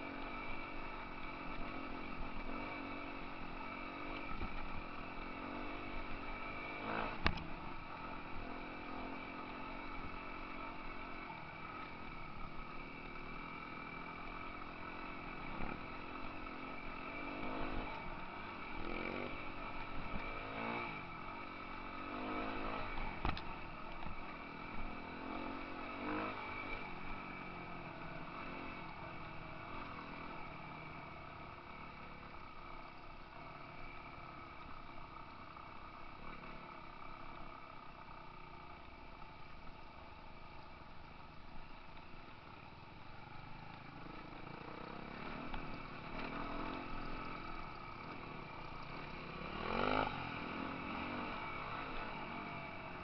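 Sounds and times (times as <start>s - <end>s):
dirt bike engine revving: 0.0s - 32.8s, 43.2s - 53.0s.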